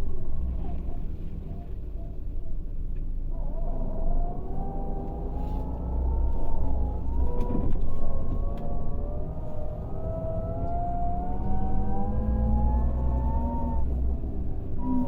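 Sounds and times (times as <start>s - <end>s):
diesel engine accelerating: 0.0s - 15.0s.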